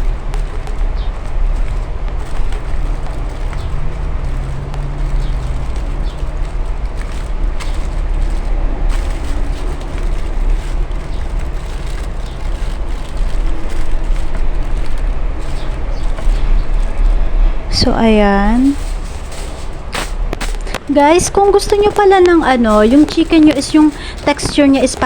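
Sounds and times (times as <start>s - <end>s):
aluminium foil crinkling: 0.0s - 25.0s
steady low rumble: 0.0s - 25.0s.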